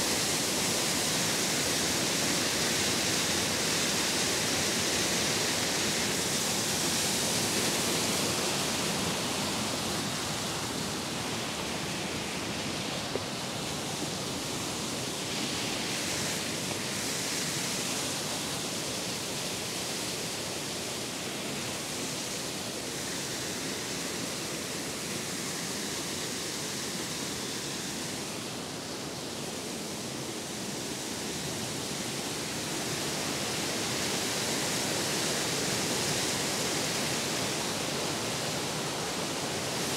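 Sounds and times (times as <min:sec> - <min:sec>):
small waterfall rushing: 0:00.0 - 0:39.9.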